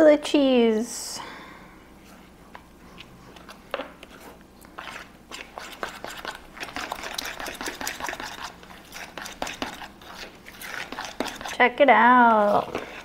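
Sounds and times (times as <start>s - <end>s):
fork mixing eggs in bowl: 2.0s - 13.0s.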